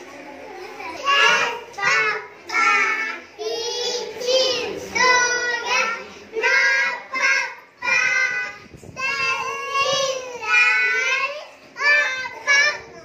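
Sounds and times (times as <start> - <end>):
young children singing: 0.0 - 13.0.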